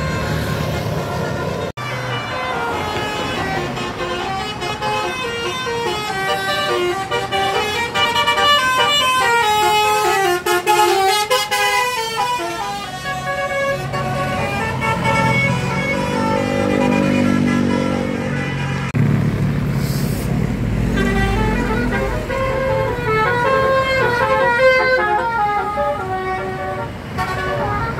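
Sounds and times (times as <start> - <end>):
multi-tone bus horn tune: 0.0 - 19.0, 20.8 - 27.9
bus engine running: 0.0 - 27.9.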